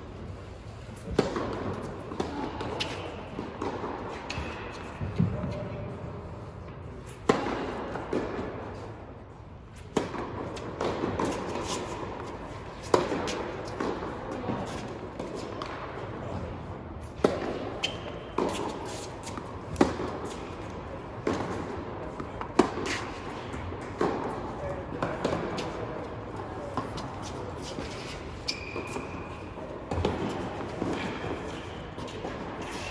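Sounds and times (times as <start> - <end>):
tennis balls struck by racquets: 1.0 - 5.6, 6.6 - 8.9, 9.8 - 16.4, 17.0 - 32.9.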